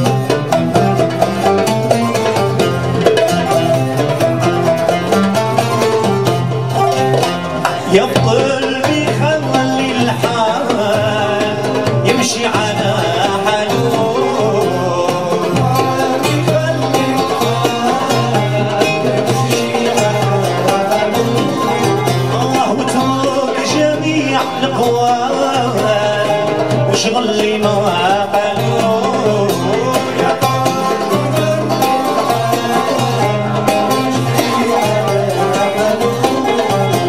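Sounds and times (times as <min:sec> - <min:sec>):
bass guitar: 0:00.0 - 0:37.0
frame drum: 0:00.0 - 0:37.0
nylon-string guitar: 0:00.0 - 0:37.0
plucked lute: 0:00.0 - 0:37.0.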